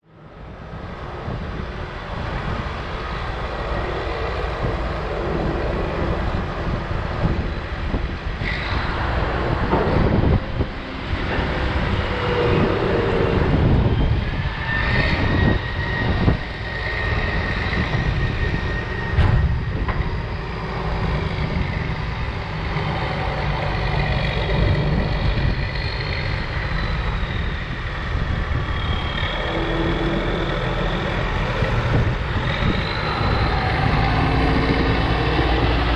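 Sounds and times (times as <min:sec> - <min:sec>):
heavy diesel machinery running: 0:00.1 - 0:35.9.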